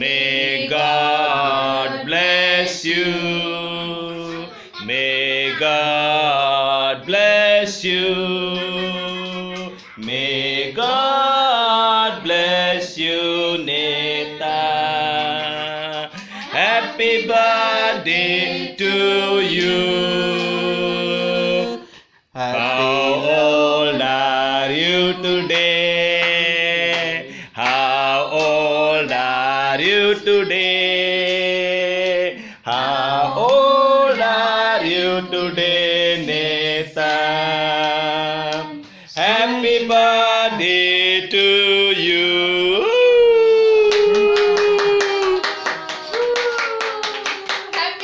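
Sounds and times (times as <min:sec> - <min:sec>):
group singing a birthday song: 0:00.0 - 0:48.0.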